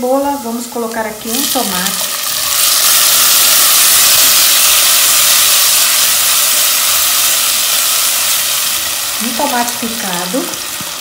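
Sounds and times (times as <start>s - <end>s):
tomato sizzling in hot fat: 0.0s - 11.0s.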